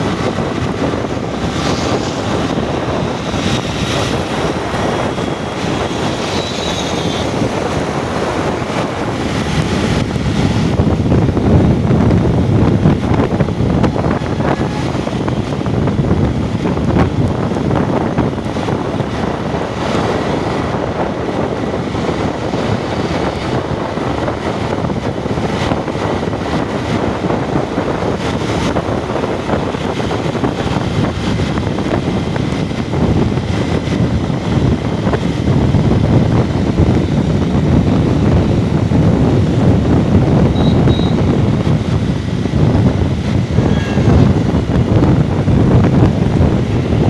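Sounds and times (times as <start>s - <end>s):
vehicle running noise: 0.0s - 47.0s
wind buffeting microphone: 0.0s - 47.0s.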